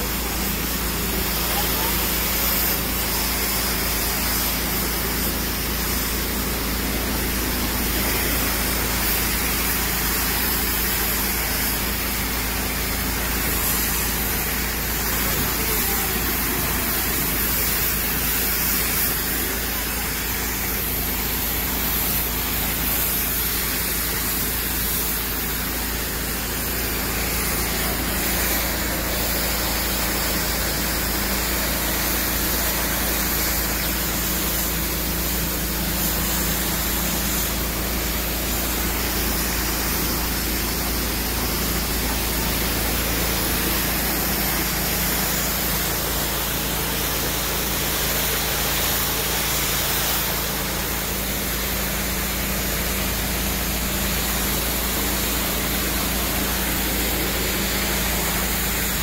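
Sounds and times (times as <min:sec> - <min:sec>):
pressure washer spraying on rock: 0:00.0 - 0:59.0.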